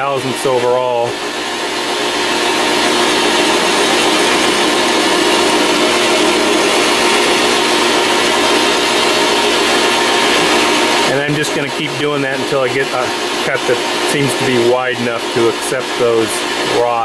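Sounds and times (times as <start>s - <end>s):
lathe cutting tool cutting: 0.0s - 17.0s
metal lathe humming: 0.0s - 17.0s.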